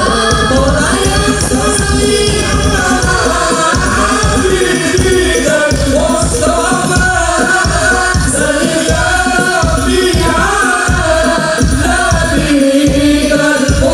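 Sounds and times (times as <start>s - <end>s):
frame drums beating: 0.0s - 13.9s
lead voice singing with group: 0.0s - 13.9s.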